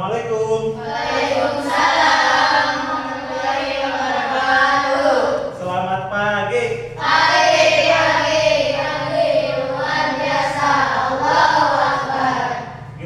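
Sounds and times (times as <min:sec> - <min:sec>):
children singing in unison: 0:00.8 - 0:05.6, 0:07.0 - 0:13.0.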